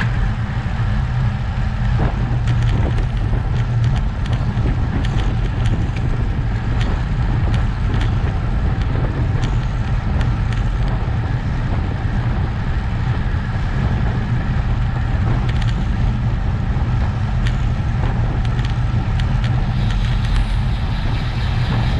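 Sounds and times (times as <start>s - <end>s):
low road rumble: 0.0s - 21.9s
wind buffeting microphone: 0.0s - 21.9s.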